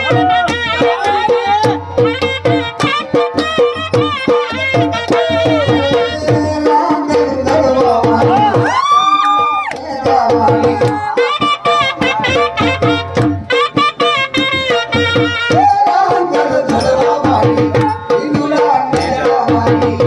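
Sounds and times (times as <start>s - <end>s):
drumming in quick beat: 0.0s - 20.0s.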